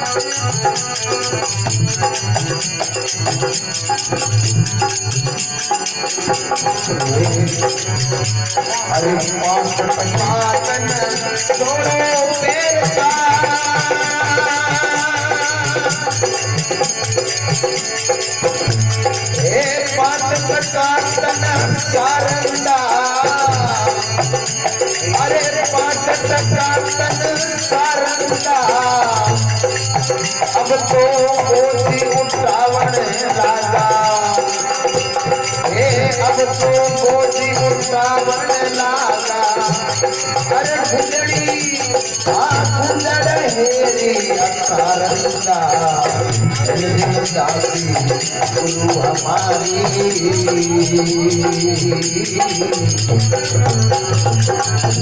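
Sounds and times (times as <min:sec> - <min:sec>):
dholak drum beats: 0:00.0 - 0:55.0
harmonium melody: 0:00.0 - 0:55.0.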